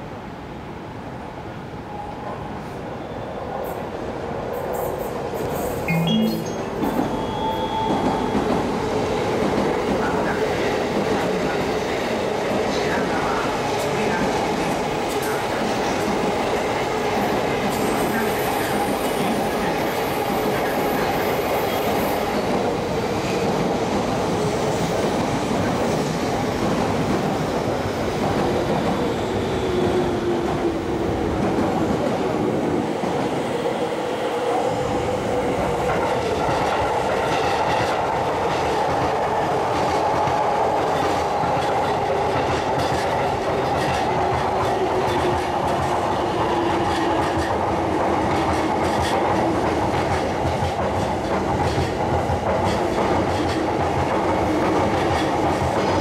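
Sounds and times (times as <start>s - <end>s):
train wheels clattering on rails: 7.8s - 33.4s, 35.3s - 56.0s.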